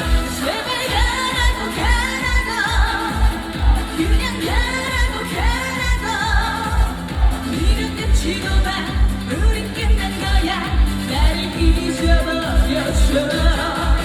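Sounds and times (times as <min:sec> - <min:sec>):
amplified backing track: 0:00.0 - 0:14.0
steady kick drum: 0:00.0 - 0:14.0
woman singing pop song: 0:00.0 - 0:14.0.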